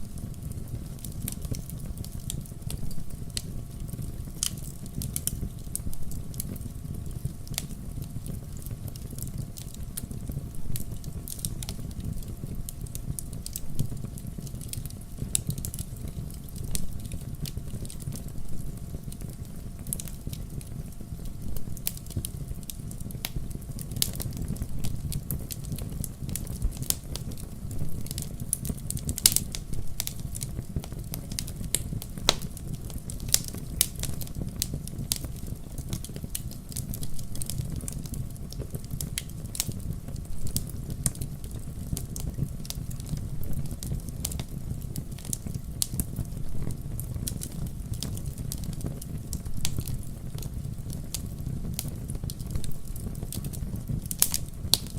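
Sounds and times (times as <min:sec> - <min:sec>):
fire crackling and popping: 0:00.0 - 0:54.9
low rumble of flames: 0:00.0 - 0:54.9.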